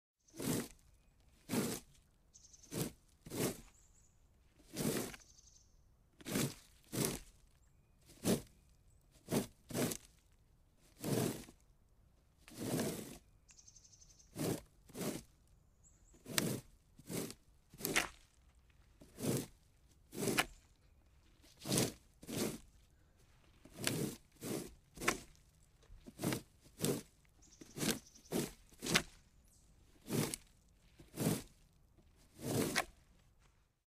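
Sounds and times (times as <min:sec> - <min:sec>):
plastic rake raking: 0:00.2 - 0:02.0, 0:02.6 - 0:03.9, 0:04.5 - 0:05.3, 0:06.2 - 0:10.2, 0:10.8 - 0:11.6, 0:12.4 - 0:13.3, 0:14.2 - 0:15.3, 0:16.2 - 0:33.6.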